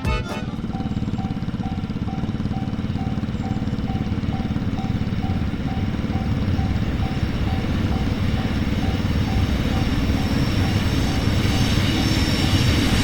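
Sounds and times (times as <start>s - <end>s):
train rumble: 0.0s - 13.0s
level crossing warning bell: 0.4s - 11.6s.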